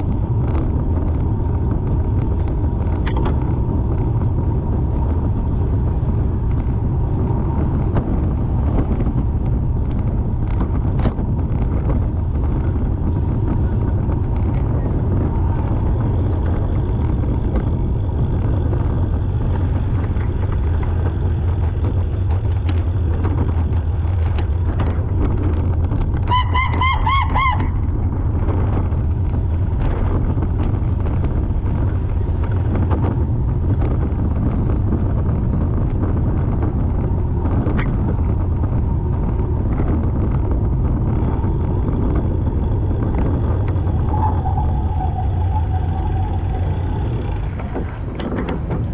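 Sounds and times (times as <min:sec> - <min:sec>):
car rumble from inside cabin: 0:00.0 - 0:48.9.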